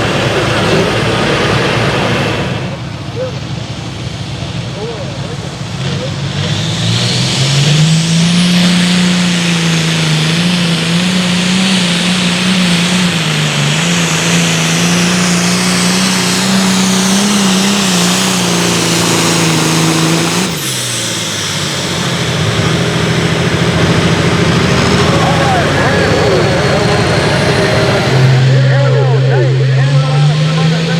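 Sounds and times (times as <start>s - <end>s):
tractor diesel engine running flat out: 0.0s - 30.9s.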